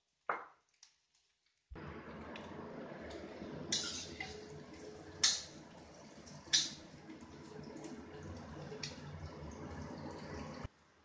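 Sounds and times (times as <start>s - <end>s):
food sizzling in hot oil: 1.8s - 10.7s.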